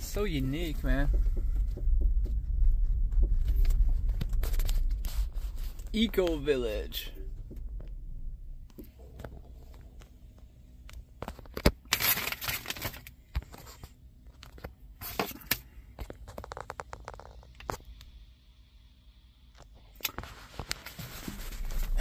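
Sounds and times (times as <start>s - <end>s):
rustling and crackling: 0.0s - 18.0s, 19.6s - 22.0s.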